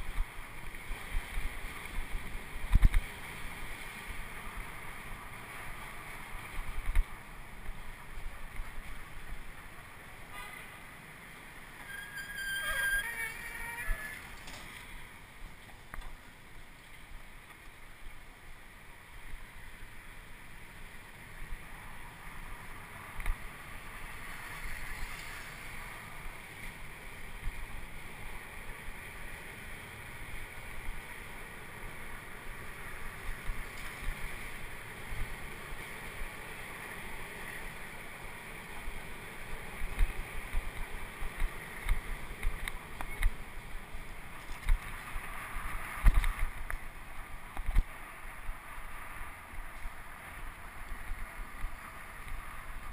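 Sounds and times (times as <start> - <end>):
bicycle road rumble: 0.0 - 52.9.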